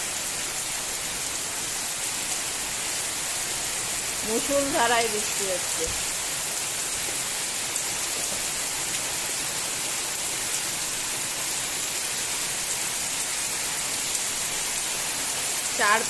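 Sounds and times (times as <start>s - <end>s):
torrential rain pouring: 0.0s - 16.0s.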